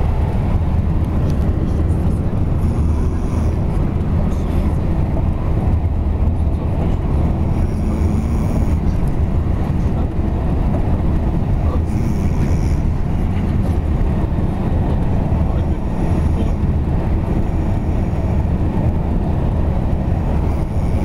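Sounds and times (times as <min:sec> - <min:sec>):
coach bus engine and road noise: 0:00.0 - 0:21.0.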